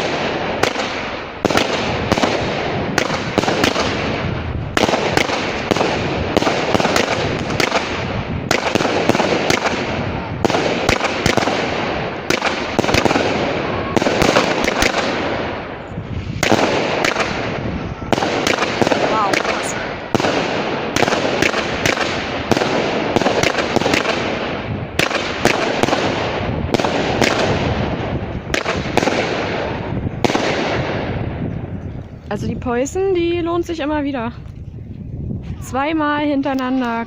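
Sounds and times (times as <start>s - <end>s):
firework shots and bursts: 0.0s - 32.2s.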